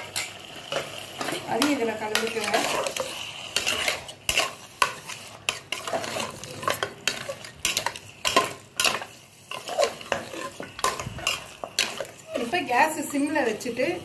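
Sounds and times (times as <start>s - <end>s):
metal spatula scraping a pot: 0.0s - 14.0s.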